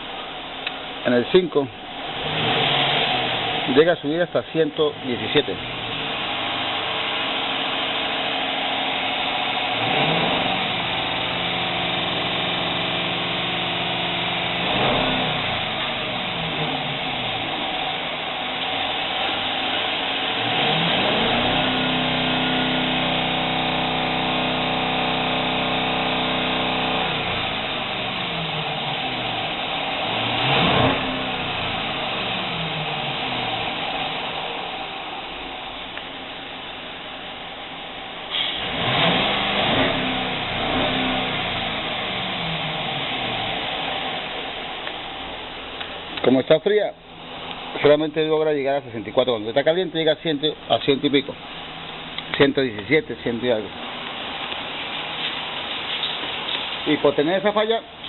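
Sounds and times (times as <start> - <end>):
misfiring engine revving: 0.0 - 58.0.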